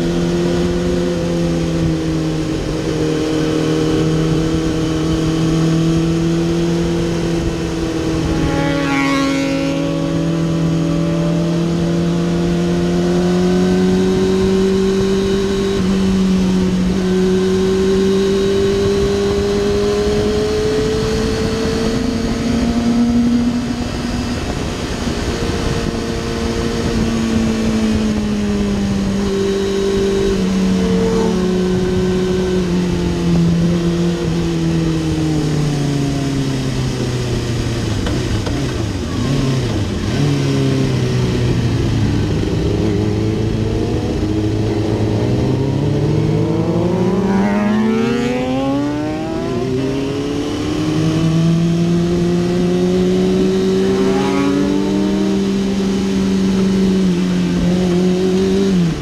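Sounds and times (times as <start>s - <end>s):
motorcycle engine running hard: 0.0s - 59.0s
wind rush: 0.0s - 59.0s.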